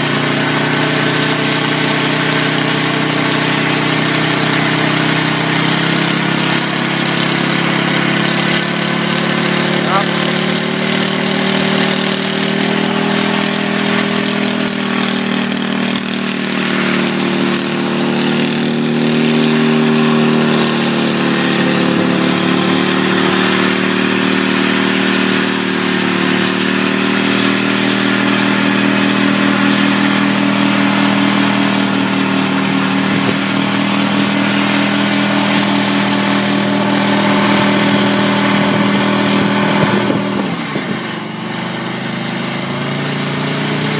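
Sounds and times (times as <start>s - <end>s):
helicopter engine running: 0.0s - 43.9s.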